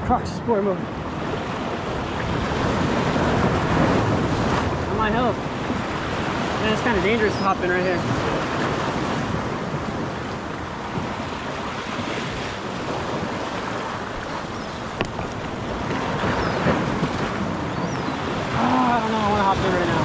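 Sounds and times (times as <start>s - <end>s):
wind buffeting microphone: 0.0s - 20.0s
waves washing against rocks: 0.6s - 20.0s.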